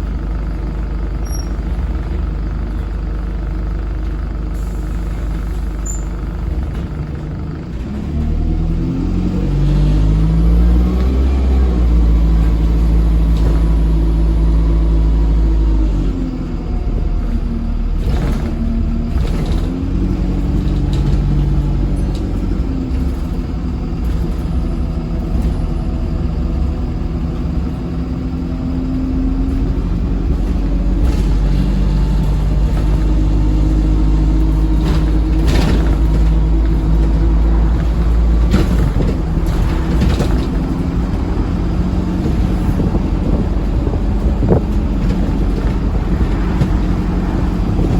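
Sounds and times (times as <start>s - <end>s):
bus engine revving: 0.0s - 47.9s.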